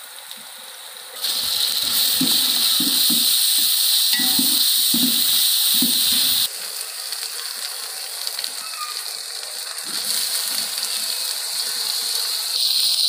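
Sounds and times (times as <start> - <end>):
paste sizzling in hot oil: 0.0 - 13.0.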